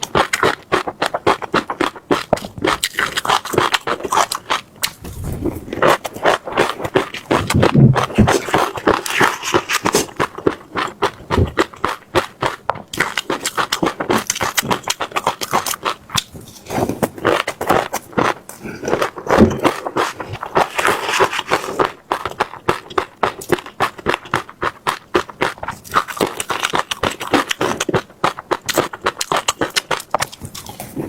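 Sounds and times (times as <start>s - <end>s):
teeth crunching seeds: 0.0s - 31.0s.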